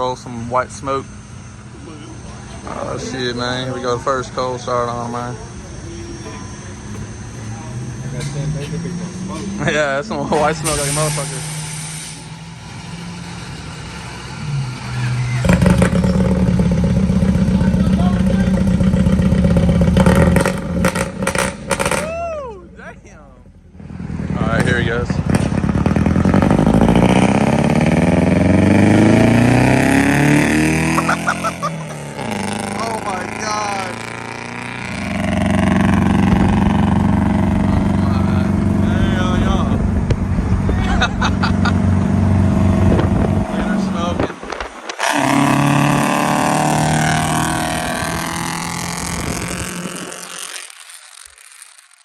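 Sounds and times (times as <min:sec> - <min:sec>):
car engine revving loudly: 0:06.7 - 0:22.1, 0:23.6 - 0:51.7.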